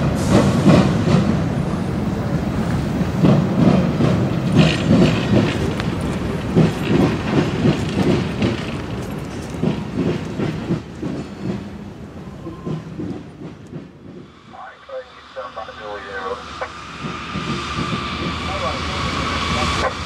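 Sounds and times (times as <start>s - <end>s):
train wheels clacking over rail joints: 0.0s - 14.3s, 16.6s - 20.0s.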